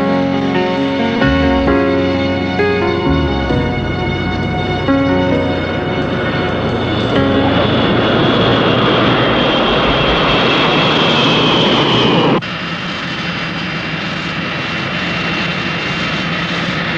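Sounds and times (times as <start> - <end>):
jet engines whining: 0.0 - 14.7.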